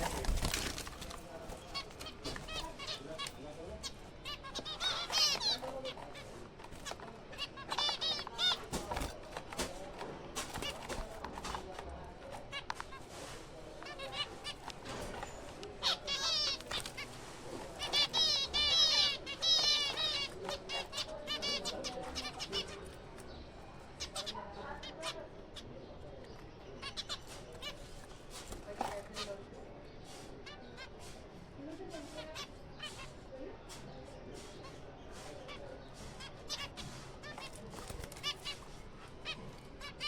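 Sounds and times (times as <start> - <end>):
finches chirping: 0.0 - 40.0.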